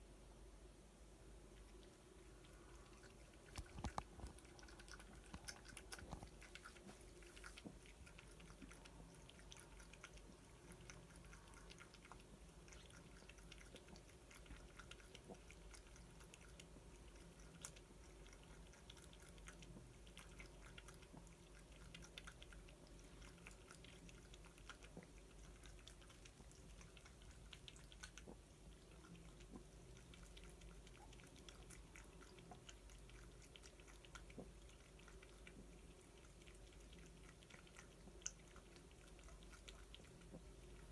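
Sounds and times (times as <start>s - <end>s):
cat chewing clicks: 2.8s - 40.9s.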